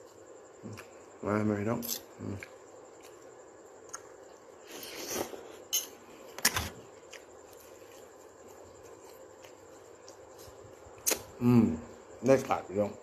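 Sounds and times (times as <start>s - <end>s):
soft chewing: 0.0s - 1.2s, 2.0s - 11.4s.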